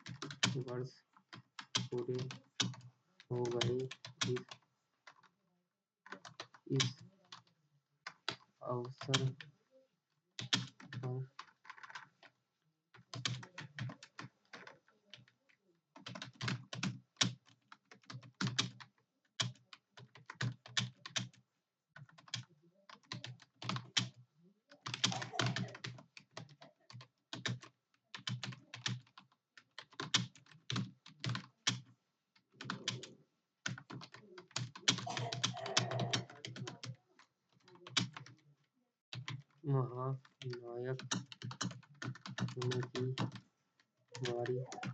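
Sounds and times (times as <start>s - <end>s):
fast typing on keyboard: 0.0s - 5.3s, 6.1s - 9.5s, 10.4s - 12.4s, 13.0s - 38.4s, 39.1s - 43.5s, 44.2s - 44.9s.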